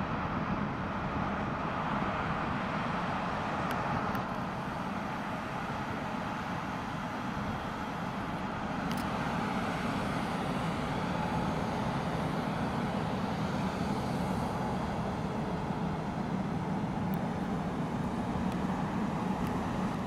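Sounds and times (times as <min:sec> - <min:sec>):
jet engines rumbling with hiss: 0:00.0 - 0:20.0.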